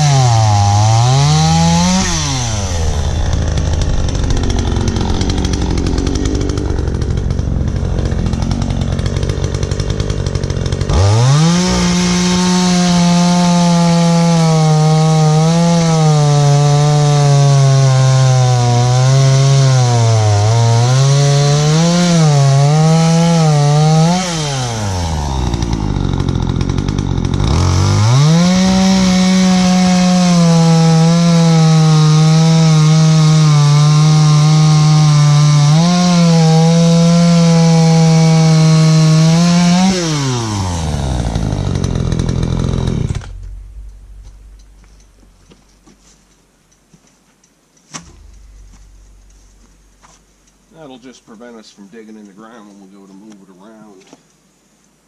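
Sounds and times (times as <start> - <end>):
chainsaw cutting wood: 0.0 - 46.1, 47.9 - 51.1.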